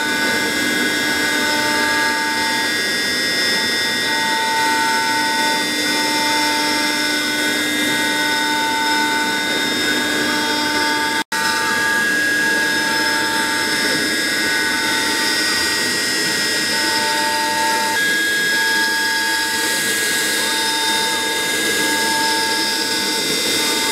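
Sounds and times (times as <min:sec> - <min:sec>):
router spindle whine: 0:00.0 - 0:23.9
vacuum running: 0:00.0 - 0:23.9.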